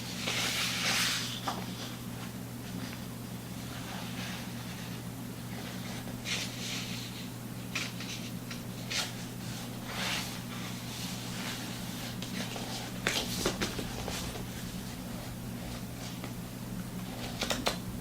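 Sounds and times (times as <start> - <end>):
pages and bedding rustling: 0.0 - 17.8
steady low hum: 0.0 - 18.0.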